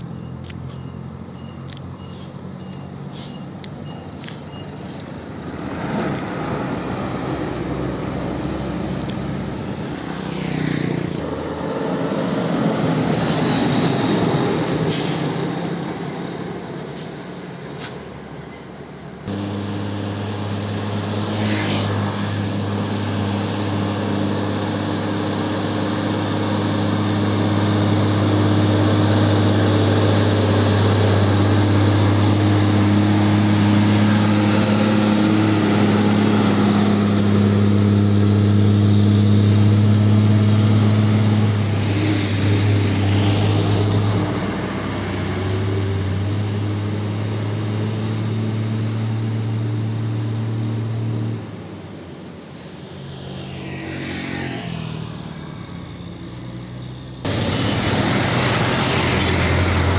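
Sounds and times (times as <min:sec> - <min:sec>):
diesel engine drone: 0:00.0 - 0:59.9
dump truck passing: 0:00.0 - 0:59.9
traffic noise: 0:00.0 - 0:59.9.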